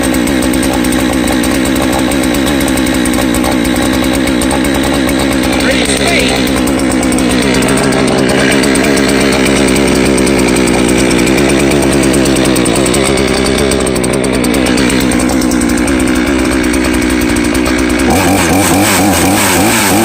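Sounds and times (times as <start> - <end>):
two-stroke chainsaw running: 0.0 - 20.0.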